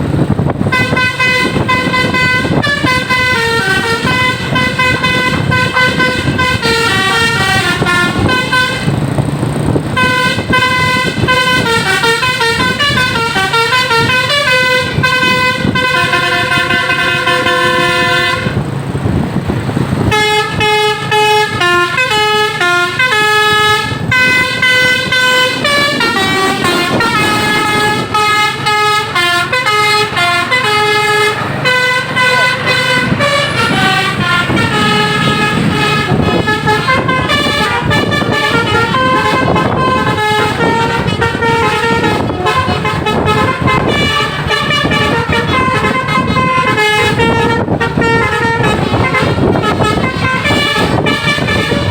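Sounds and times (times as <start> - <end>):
bus engine rumbling: 0.0 - 51.9
musical bus horn melody: 0.0 - 51.9.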